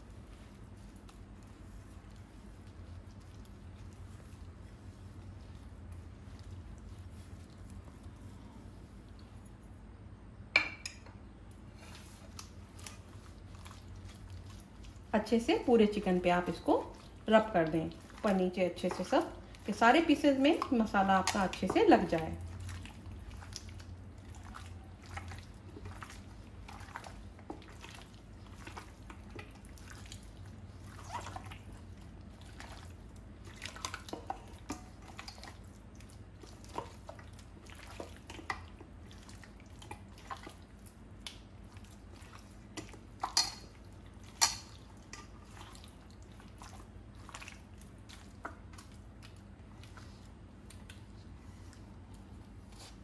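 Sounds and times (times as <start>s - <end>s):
wet squelching of marinated chicken: 0.0s - 10.1s, 11.3s - 53.0s.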